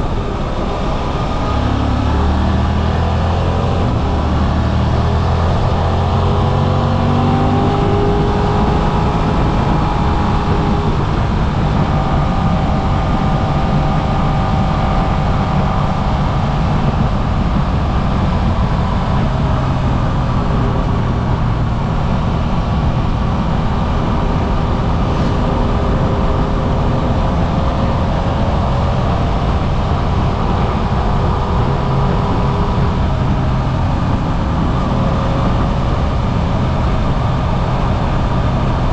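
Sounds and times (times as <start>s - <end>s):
heavy wind rush on microphone: 0.0s - 38.9s
motorcycle engine running: 0.0s - 38.9s.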